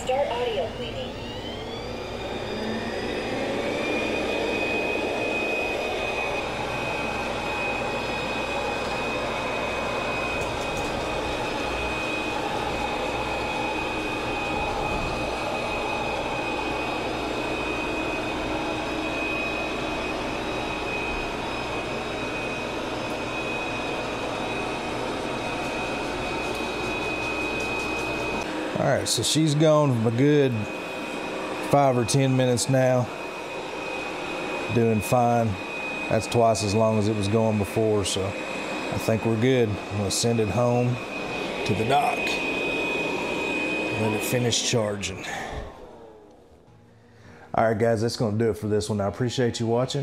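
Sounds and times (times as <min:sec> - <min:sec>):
robot vacuum cleaner whine: 0:00.0 - 0:46.8.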